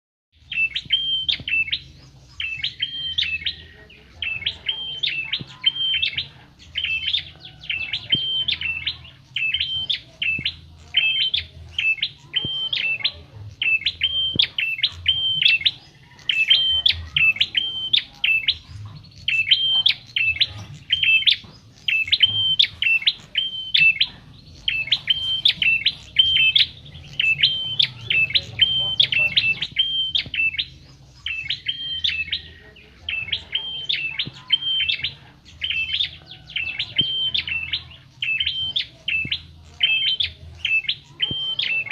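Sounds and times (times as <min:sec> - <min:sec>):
bird sharp high chirps: 0:00.4 - 0:41.9.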